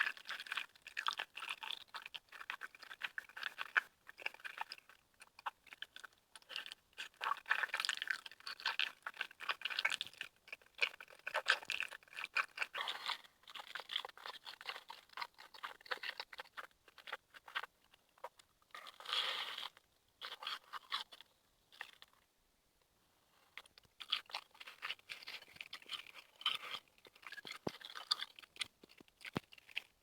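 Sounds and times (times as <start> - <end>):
person chewing and eating: 0.0 - 22.2, 23.5 - 30.0.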